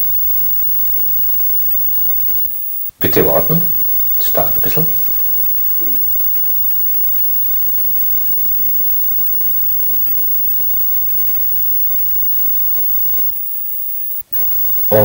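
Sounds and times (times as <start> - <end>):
low hum: 0.0 - 15.0
steady tape hiss: 0.0 - 15.0.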